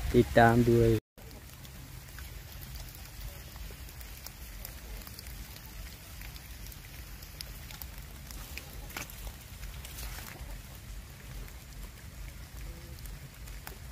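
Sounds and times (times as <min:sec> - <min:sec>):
steady background hiss: 0:00.0 - 0:13.9.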